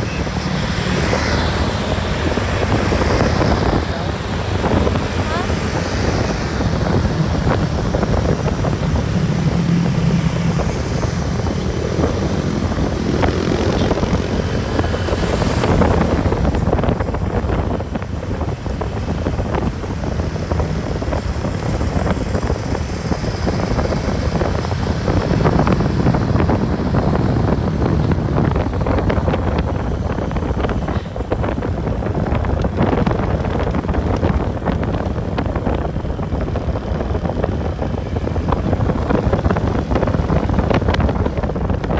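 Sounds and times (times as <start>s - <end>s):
bus engine running: 0.0s - 41.9s
road noise: 0.0s - 41.9s.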